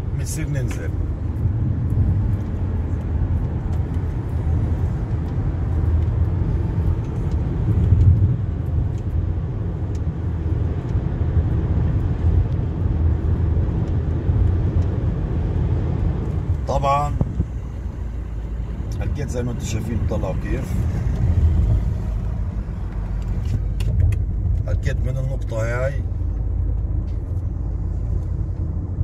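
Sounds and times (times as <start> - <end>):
car cabin road and engine rumble: 0.0 - 29.0.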